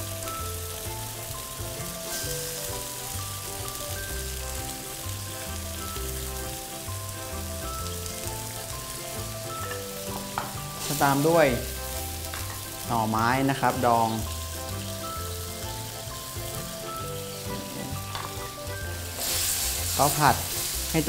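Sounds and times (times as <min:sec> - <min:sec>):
background music: 0:00.0 - 0:21.0
food sizzling in a wok: 0:00.0 - 0:21.0.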